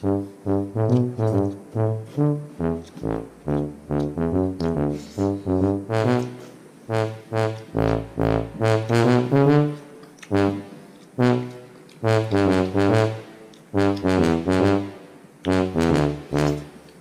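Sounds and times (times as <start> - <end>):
brass-led tune: 0.0 - 17.0.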